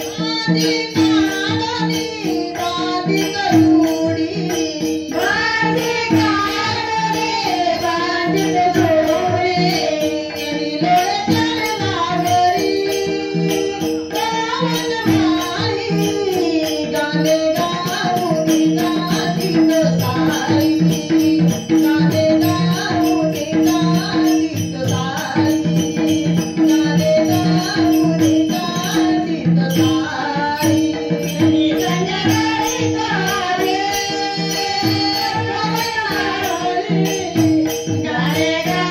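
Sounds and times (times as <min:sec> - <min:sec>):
group singing devotional song: 0:00.0 - 0:38.9
jingling percussion: 0:00.0 - 0:38.9.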